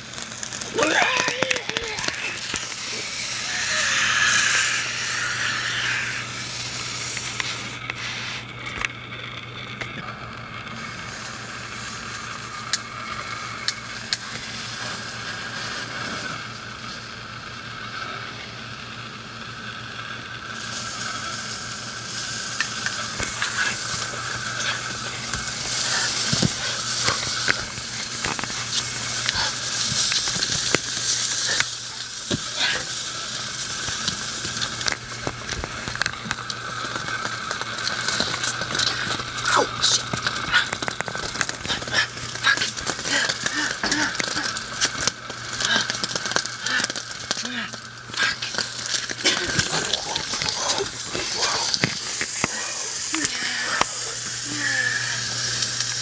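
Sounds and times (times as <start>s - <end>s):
sparklers crackling fizz: 0.0s - 56.0s.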